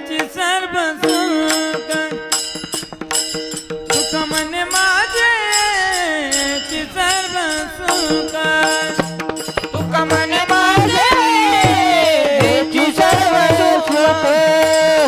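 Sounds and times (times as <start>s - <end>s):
man singing wordless devotional line: 0.0s - 2.9s, 3.9s - 15.0s
drum strokes: 0.0s - 15.0s.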